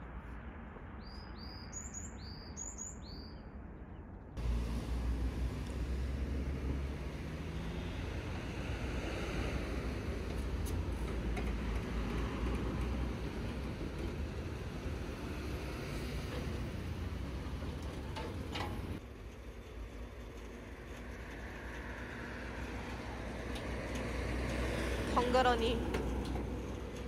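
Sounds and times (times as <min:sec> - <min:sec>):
truck engine rumbling: 0:04.4 - 0:27.0.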